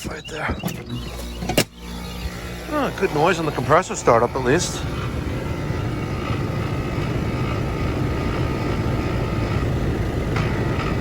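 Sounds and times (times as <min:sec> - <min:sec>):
air conditioner unit droning: 0:01.0 - 0:11.0.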